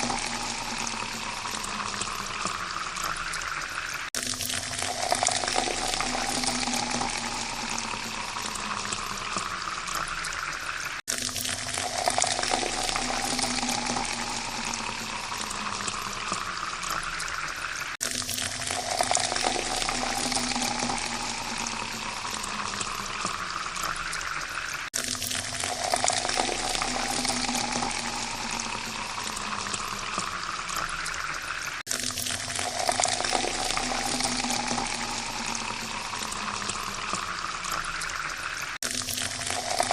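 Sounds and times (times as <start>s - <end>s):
water pouring into a glass: 0.0s - 39.9s.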